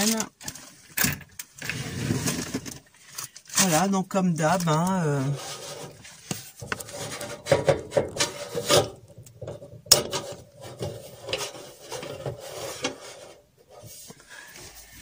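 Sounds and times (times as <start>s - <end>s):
wooden shelf scraping: 0.7s - 2.9s, 4.6s - 15.0s.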